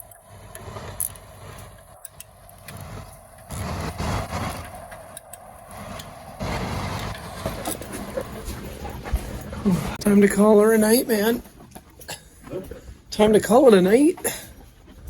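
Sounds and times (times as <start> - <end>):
vehicle engine and road rumble: 0.0 - 13.1.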